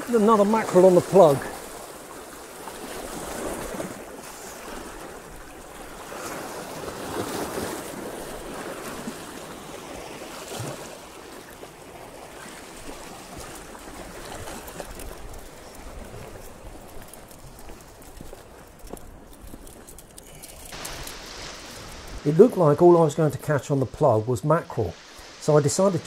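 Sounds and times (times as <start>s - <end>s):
waves splashing against rocks: 0.0s - 26.0s.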